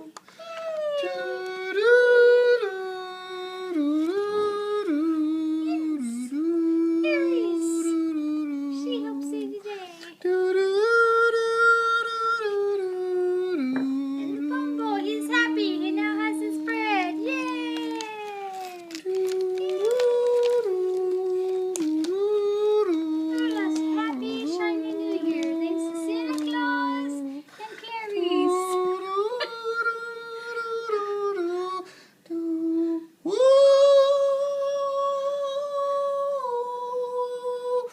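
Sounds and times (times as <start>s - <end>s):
person humming held notes: 0.0s - 27.5s, 28.1s - 37.9s.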